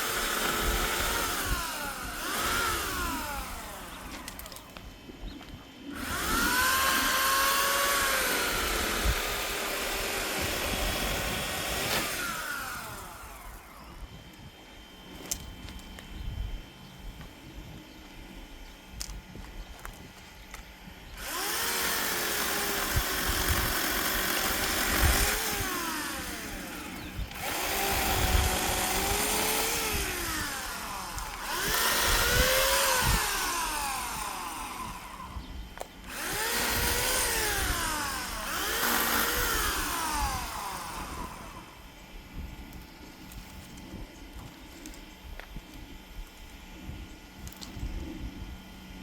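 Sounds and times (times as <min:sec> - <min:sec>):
electric chainsaw cutting wood: 0:00.0 - 0:16.1, 0:19.0 - 0:48.7.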